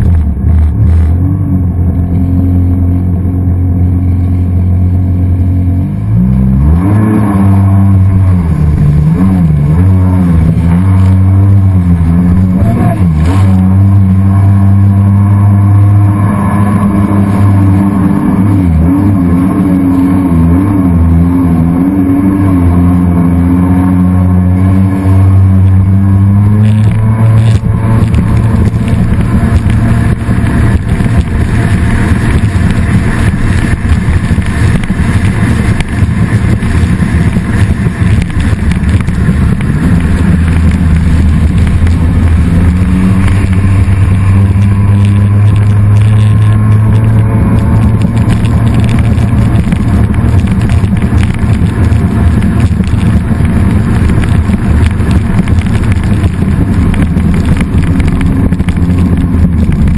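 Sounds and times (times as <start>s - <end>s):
jet ski engine running: 0.0s - 6.8s, 7.4s - 59.9s.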